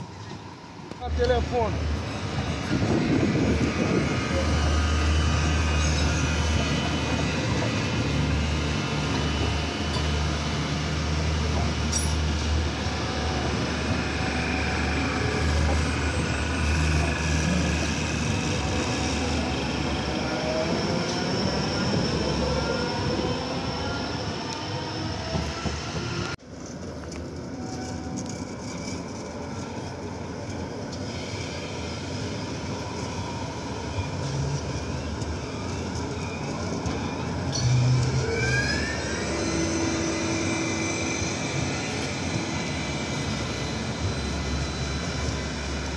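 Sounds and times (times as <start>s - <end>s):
light-rail cars rumbling: 0.0s - 45.9s.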